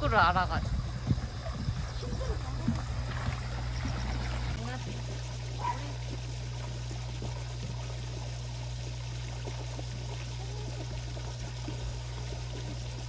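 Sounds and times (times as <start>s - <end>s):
steady low hum: 0.0s - 13.0s
water jet pouring into pool: 0.0s - 13.0s.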